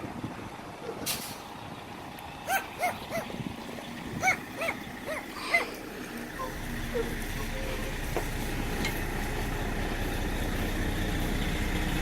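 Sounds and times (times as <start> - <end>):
coach diesel engine running: 0.0 - 12.0.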